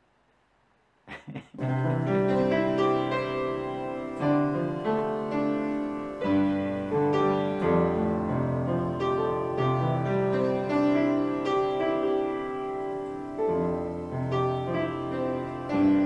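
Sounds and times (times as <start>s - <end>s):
piano melody over chords: 1.6s - 16.0s.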